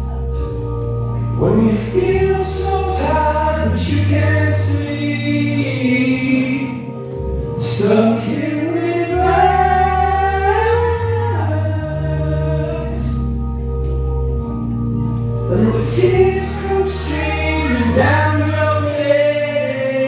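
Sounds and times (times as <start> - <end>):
person singing: 0.0 - 13.6, 15.4 - 20.0
backing track with held bass notes: 0.0 - 20.0.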